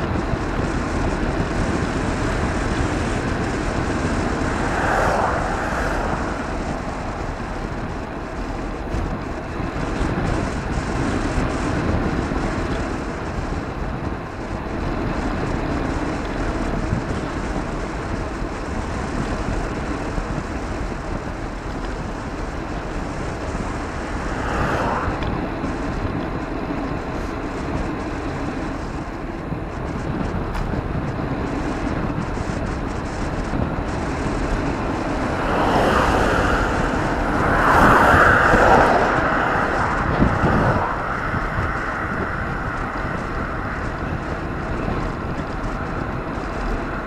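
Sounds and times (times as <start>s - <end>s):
road noise: 0.0s - 47.0s
vehicles passing: 0.0s - 47.0s
wind on microphone: 0.0s - 47.0s.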